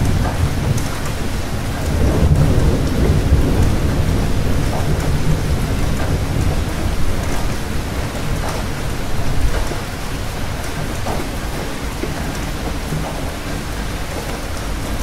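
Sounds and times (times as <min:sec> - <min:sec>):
low thunder rumble: 0:00.0 - 0:15.0
steady rain falling: 0:00.0 - 0:15.0.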